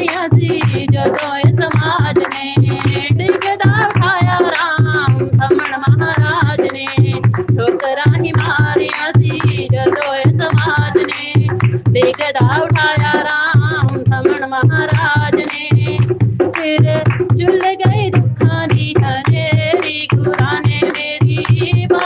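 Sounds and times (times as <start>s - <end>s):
person singing devotional song: 0.0s - 22.0s
tabla rhythm: 0.0s - 22.0s.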